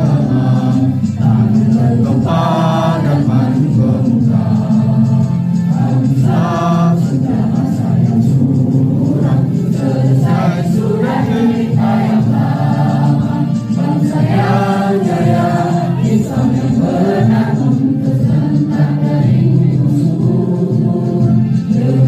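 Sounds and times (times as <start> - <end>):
group singing in chorus: 0.0 - 22.0
low musical accompaniment: 0.0 - 22.0.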